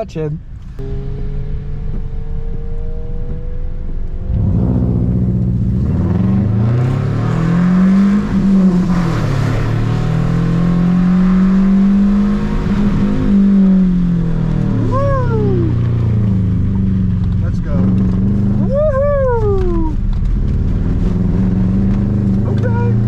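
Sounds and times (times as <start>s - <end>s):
car engine revving: 0.5s - 23.0s.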